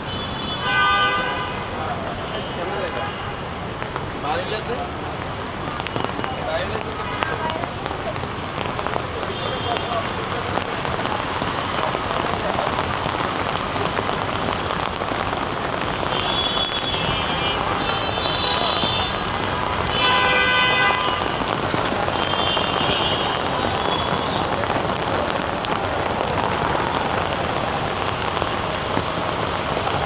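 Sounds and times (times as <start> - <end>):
heavy rain on street: 0.0 - 30.0.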